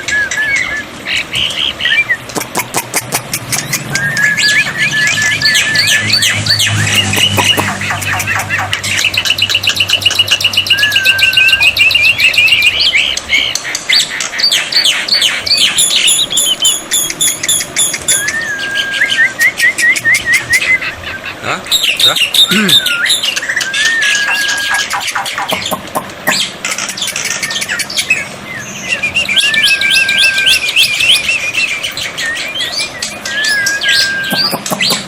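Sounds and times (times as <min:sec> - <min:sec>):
myna bird singing: 0:00.0 - 0:35.0.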